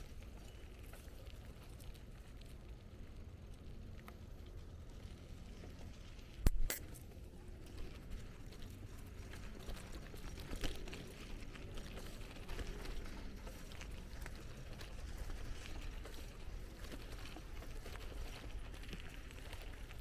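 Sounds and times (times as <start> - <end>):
bicycle riding rumble: 0.0 - 20.0.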